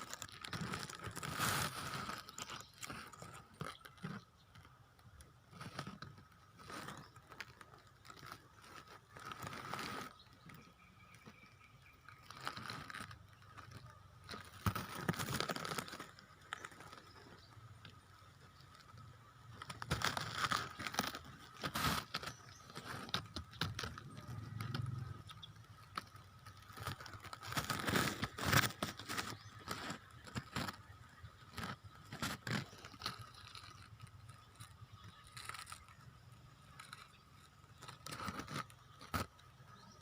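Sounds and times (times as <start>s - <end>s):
leaves rustling and crinkling: 0.0s - 40.0s.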